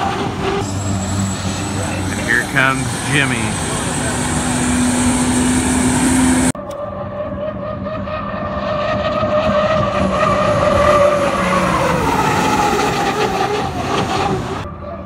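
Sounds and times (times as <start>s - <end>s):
turbine engine whining: 0.0s - 14.8s.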